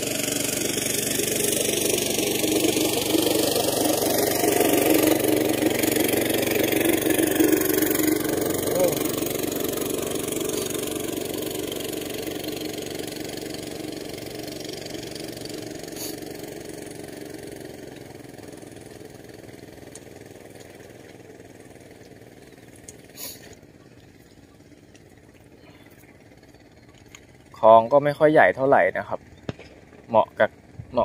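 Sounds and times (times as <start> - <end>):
vehicle engine: 0.0 - 31.0.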